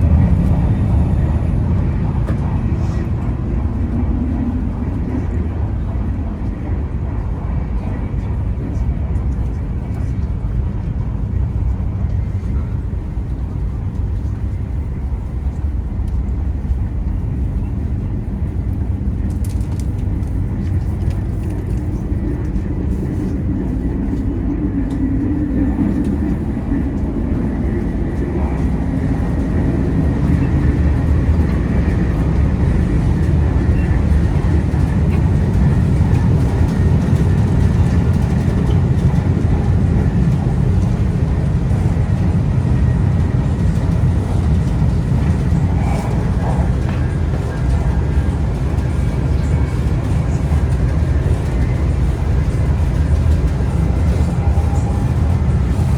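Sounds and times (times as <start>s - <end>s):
train running rumble: 0.0s - 55.9s.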